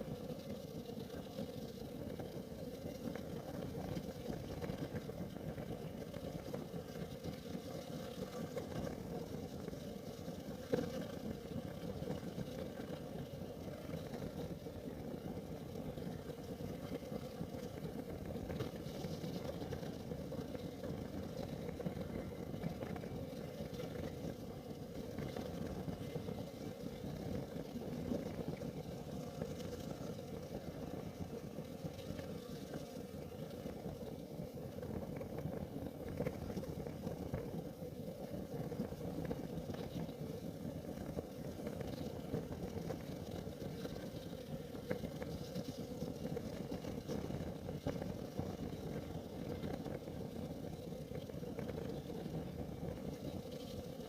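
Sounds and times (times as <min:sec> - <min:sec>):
heater flame rumbling: 0:00.0 - 0:54.0
small crackles and ticks: 0:00.0 - 0:54.0.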